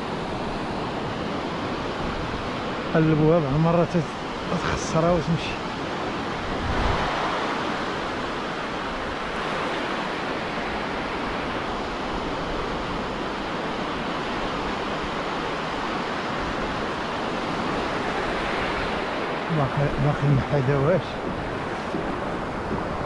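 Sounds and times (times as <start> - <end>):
surf on sandy beach: 0.0 - 23.0.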